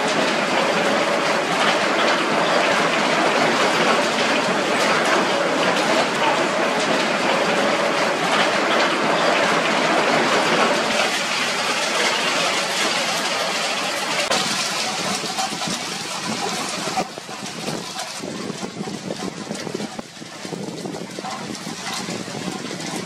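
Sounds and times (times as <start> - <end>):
hail and rain pattering: 0.0 - 23.0.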